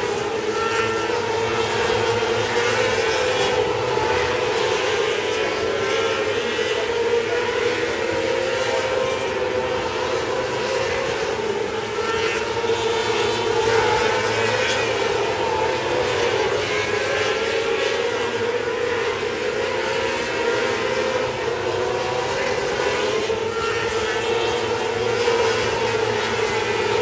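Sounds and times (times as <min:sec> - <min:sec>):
constant rushing noise: 0:00.0 - 0:27.0
race car engine running hard: 0:00.0 - 0:27.0.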